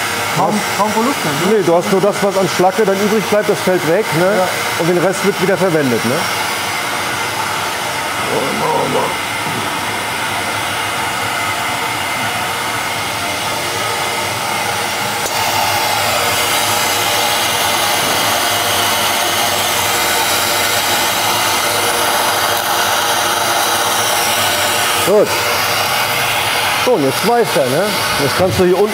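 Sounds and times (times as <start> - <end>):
welding powder suction: 0.2 - 28.9.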